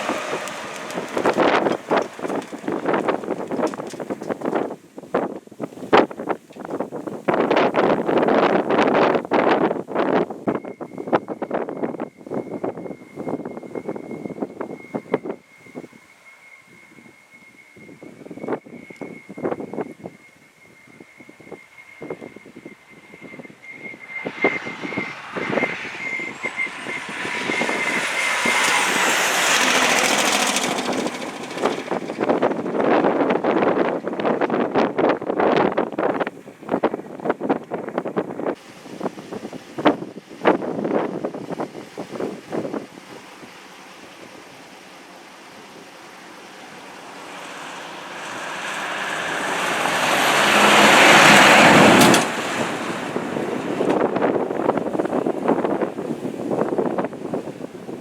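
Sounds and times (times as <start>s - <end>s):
fire truck driving past: 0.0s - 4.8s, 11.5s - 39.8s, 41.4s - 58.0s
wind buffeting microphone: 0.0s - 16.0s, 17.8s - 58.0s
vehicle tyre and road noise: 0.0s - 58.0s.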